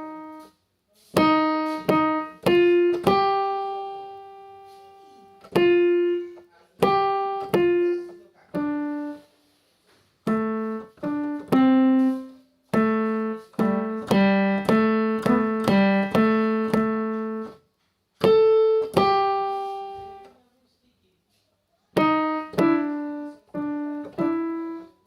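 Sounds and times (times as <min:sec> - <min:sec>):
piano notes and chords: 0:00.0 - 0:20.4, 0:21.9 - 0:25.0.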